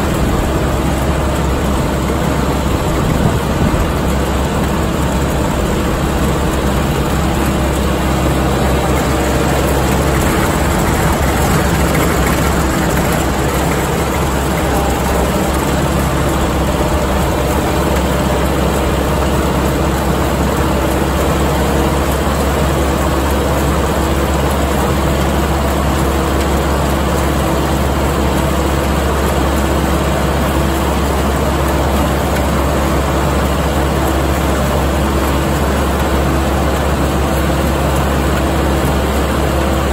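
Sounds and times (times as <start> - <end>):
mower running noise: 0.0 - 39.9
tractor diesel engine running: 0.0 - 39.9.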